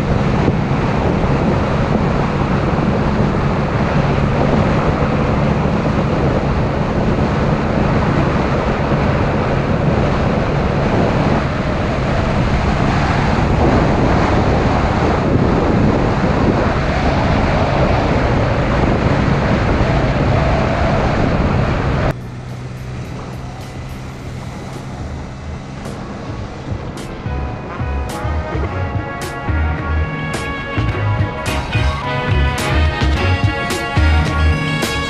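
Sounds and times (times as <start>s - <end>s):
scooter engine droning: 0.0s - 35.0s
wind buffeting microphone: 0.0s - 35.0s.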